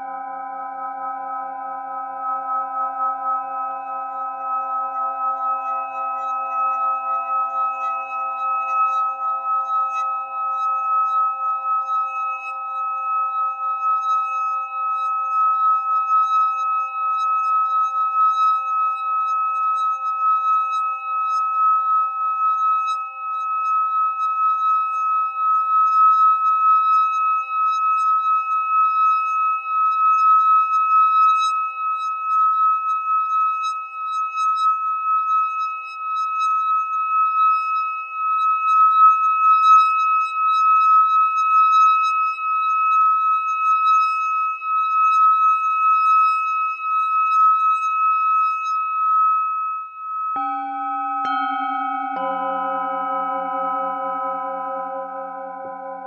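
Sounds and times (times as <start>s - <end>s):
singing bowl ringing tone: 0.0s - 56.0s.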